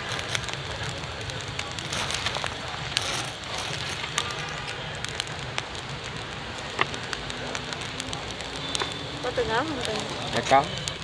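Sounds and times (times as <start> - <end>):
crackly hiss: 0.0 - 11.0.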